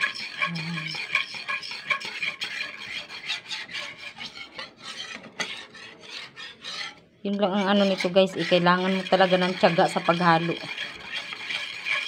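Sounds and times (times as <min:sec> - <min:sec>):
utensil stirring sticky batter: 0:00.0 - 0:12.0.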